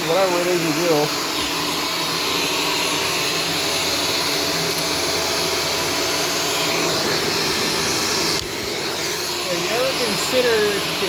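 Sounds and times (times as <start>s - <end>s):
upright vacuum cleaner running: 0.0s - 11.0s.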